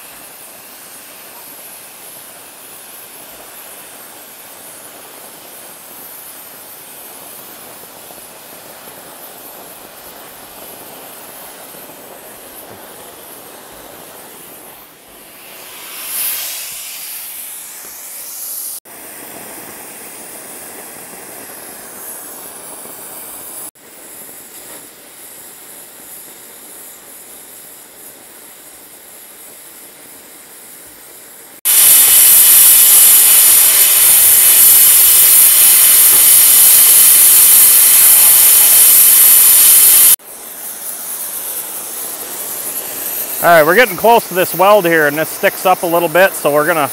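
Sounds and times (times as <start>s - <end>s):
cutting torch hissing: 0.0s - 46.9s.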